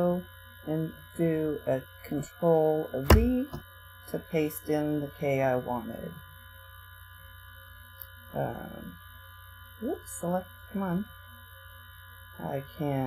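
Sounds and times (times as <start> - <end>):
electrical hum and whine: 0.0 - 13.0.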